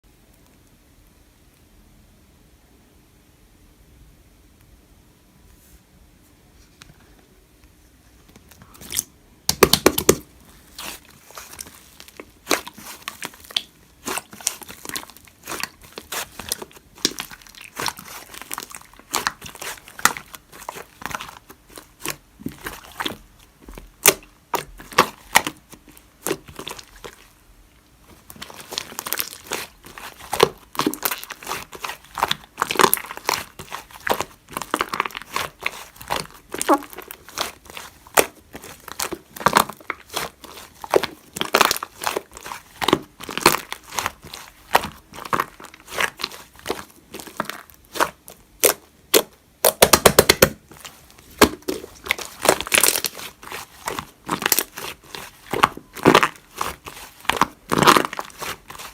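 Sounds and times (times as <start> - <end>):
slime being kneaded by hand: 8.2 - 58.9.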